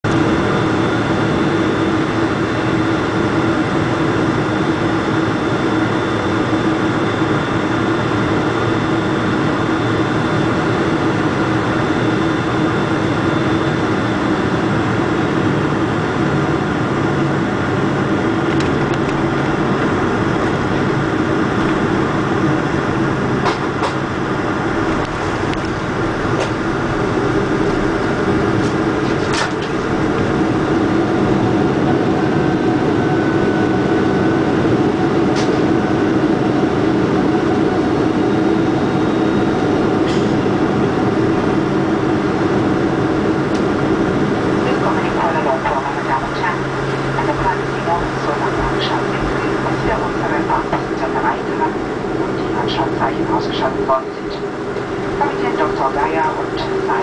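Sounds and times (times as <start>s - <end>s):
airplane cabin engine noise: 0.0s - 57.0s
rumbling on runway: 0.1s - 57.0s.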